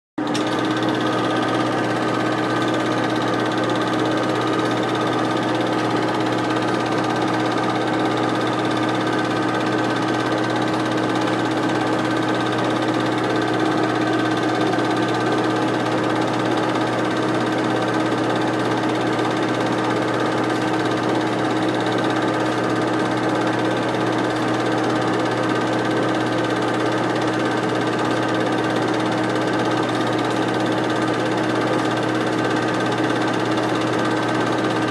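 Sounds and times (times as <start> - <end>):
film projector whirring: 0.2 - 34.9.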